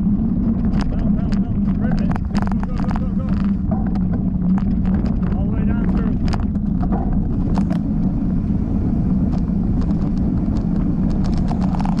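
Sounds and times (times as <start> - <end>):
bike clicking and rattling: 0.0 - 12.0
bike tyres rumbling on dirt: 0.0 - 12.0.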